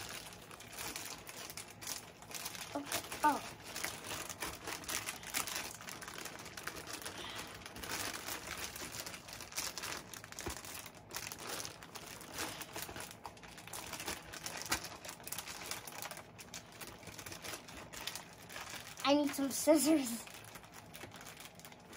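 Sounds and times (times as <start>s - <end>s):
plastic bag crinkling: 0.0s - 21.9s.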